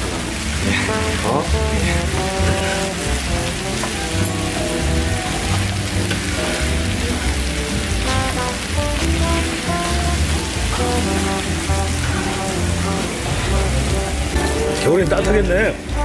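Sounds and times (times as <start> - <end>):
background music with bass: 0.0 - 16.0
stir-fry sizzling on a griddle: 0.0 - 16.0.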